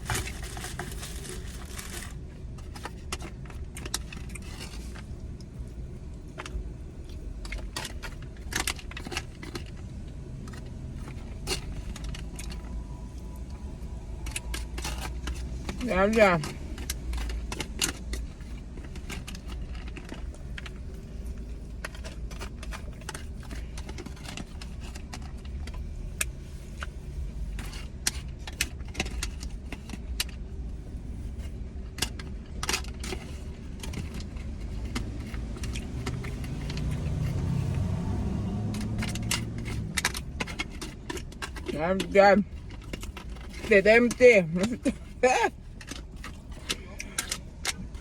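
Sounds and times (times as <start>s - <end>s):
utensil scraping food container: 0.0s - 30.2s, 31.0s - 48.0s.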